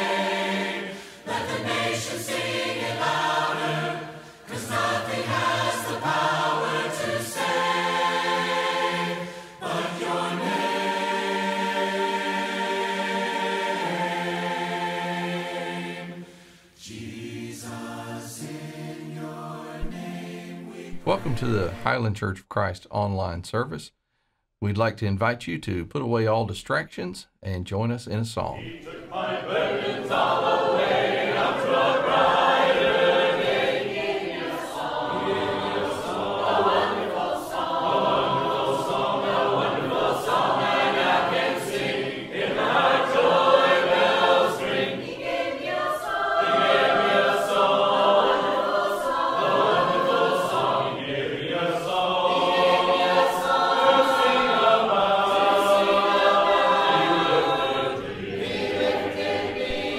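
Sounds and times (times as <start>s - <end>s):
group singing a cappella hymn: 0.0s - 21.8s, 28.5s - 59.9s.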